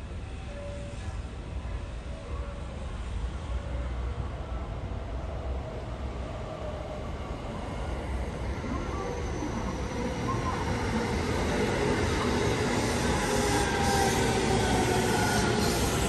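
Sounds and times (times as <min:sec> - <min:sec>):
electric train rumbling past: 0:00.0 - 0:16.0.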